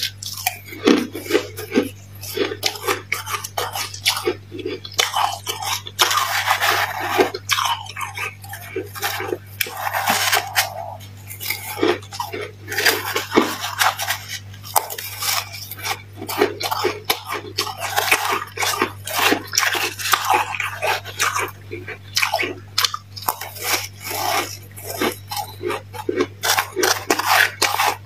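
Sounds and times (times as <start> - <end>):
metal spoon scraping frost: 0.0 - 21.6, 23.2 - 28.0.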